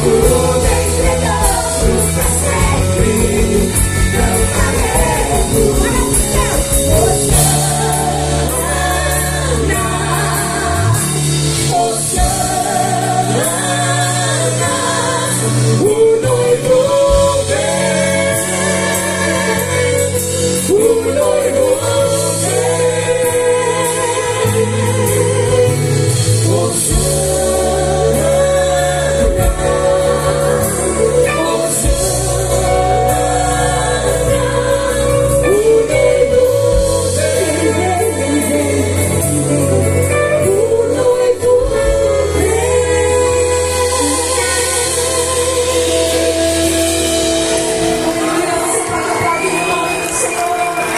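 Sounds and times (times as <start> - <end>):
gospel band with singing: 0.0 - 50.9.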